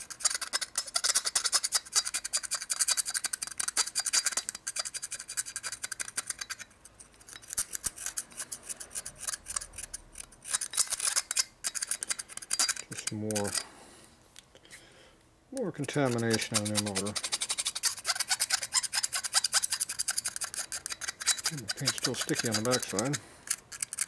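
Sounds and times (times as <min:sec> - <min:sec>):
metal pick scraping metal: 0:00.0 - 0:13.8, 0:15.6 - 0:24.0.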